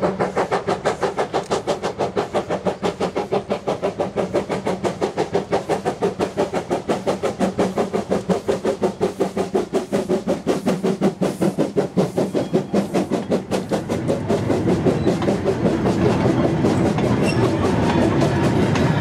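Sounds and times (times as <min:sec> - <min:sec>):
steam locomotive exhaust chuffs: 0:00.0 - 0:19.0
wagon wheels rumbling on rails: 0:00.0 - 0:19.0.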